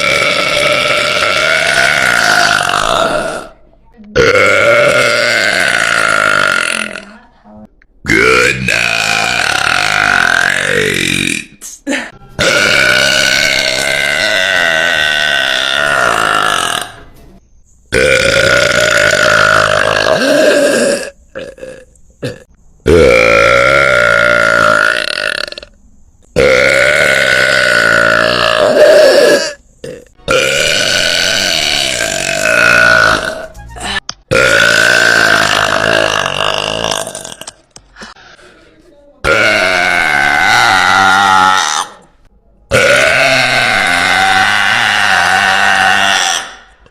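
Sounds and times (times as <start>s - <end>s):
woman burping loudly: 0.0s - 7.2s, 8.1s - 17.0s, 17.9s - 25.8s, 26.4s - 38.1s, 39.2s - 42.1s, 42.7s - 46.9s.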